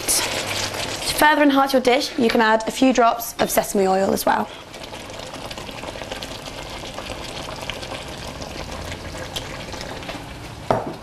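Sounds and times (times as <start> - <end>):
sauce sizzling in a wok: 0.0 - 10.6.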